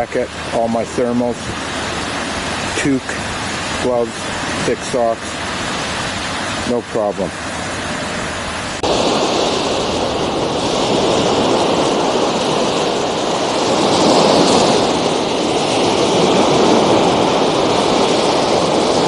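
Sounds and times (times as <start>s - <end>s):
surf rushing: 0.0s - 19.0s
wind: 0.0s - 19.0s.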